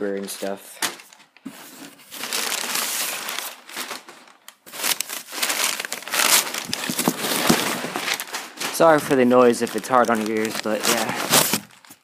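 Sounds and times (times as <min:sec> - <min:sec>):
packing paper crumpling and rustling: 0:00.1 - 0:12.0.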